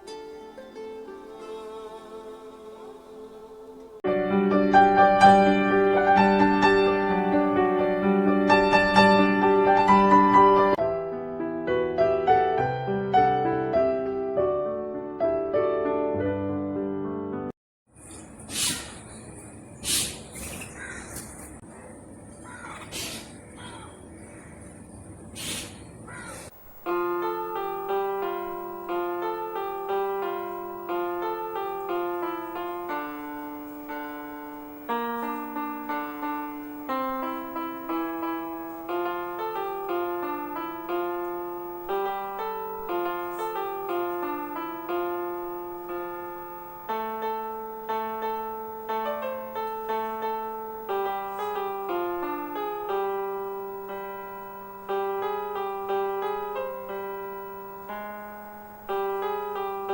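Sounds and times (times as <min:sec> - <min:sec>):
gentle piano music: 0:00.0 - 0:01.8, 0:04.1 - 0:17.5, 0:26.8 - 0:59.9.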